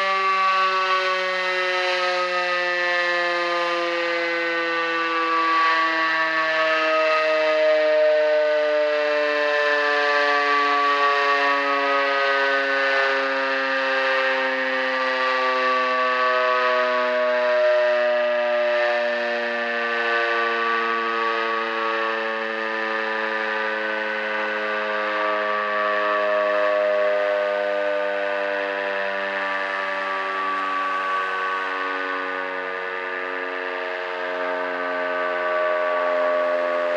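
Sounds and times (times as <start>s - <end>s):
motor siren with sinking pitch: 0.0s - 36.9s.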